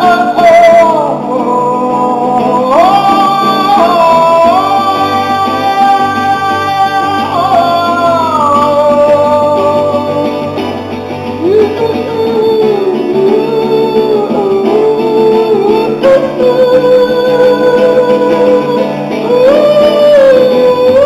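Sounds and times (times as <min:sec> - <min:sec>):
guitar: 0:00.0 - 0:21.0.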